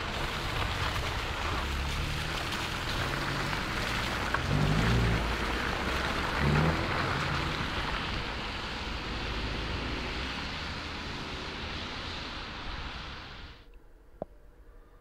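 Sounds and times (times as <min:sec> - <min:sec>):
car tyres hissing on wet road: 0:00.0 - 0:13.6.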